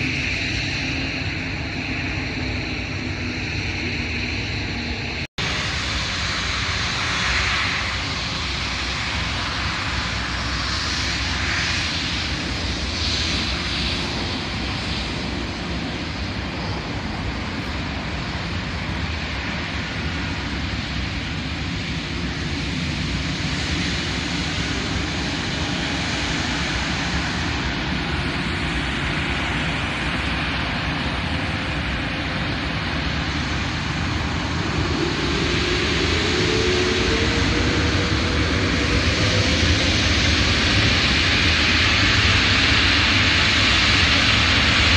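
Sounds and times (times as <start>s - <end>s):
airliner engines rumbling: 0.0s - 44.9s
rising engine whine: 0.0s - 44.9s.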